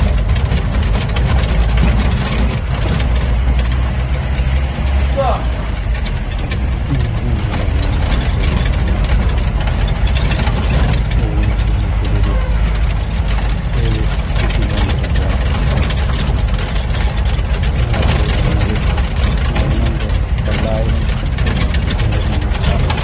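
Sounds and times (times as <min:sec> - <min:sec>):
jeep engine drone: 0:00.0 - 0:23.0
rattling and jolting: 0:00.0 - 0:23.0.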